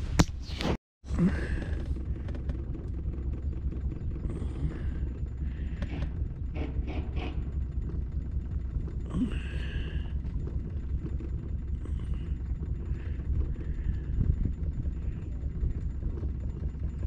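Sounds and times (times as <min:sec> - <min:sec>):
boat motor rumbling: 0:01.0 - 0:17.0.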